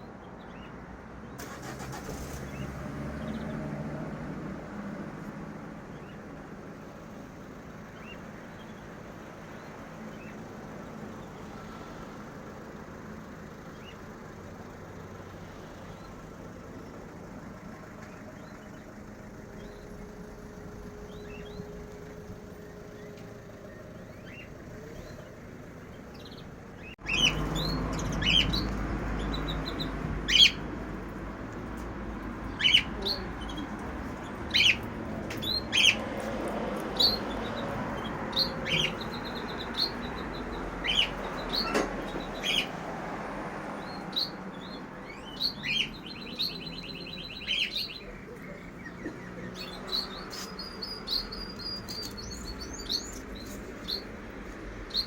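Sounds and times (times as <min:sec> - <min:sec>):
caged birds chirping: 0:00.0 - 0:55.0.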